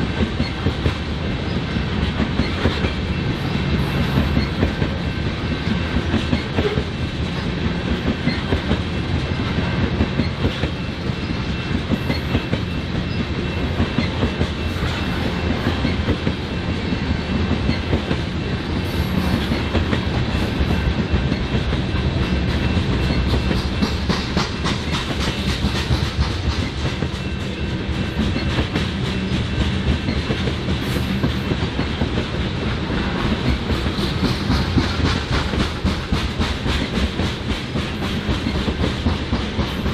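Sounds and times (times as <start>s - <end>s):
freight train cars rolling: 0.0s - 39.9s
wheels clacking over rails: 0.0s - 39.9s.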